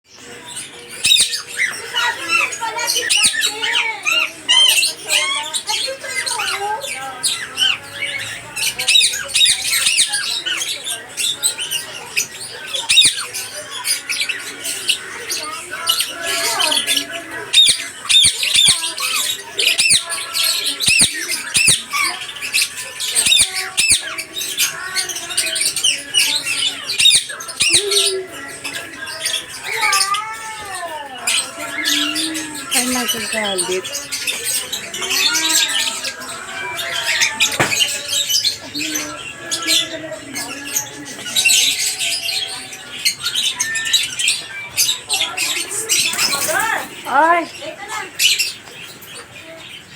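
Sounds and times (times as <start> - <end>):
lovebirds squawking and chirping: 0.1 - 49.9.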